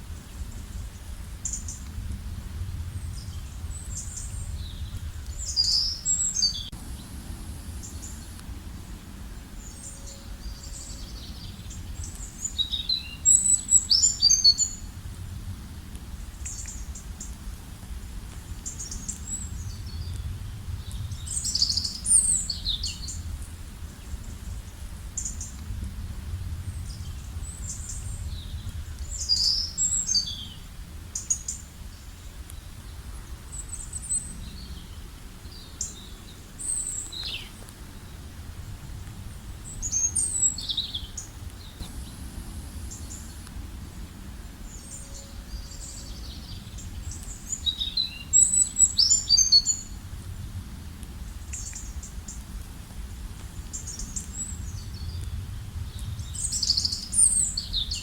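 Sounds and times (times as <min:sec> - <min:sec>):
songbird singing: 0:00.0 - 0:50.1, 0:51.0 - 0:58.0
steady low rumble: 0:00.0 - 0:58.0.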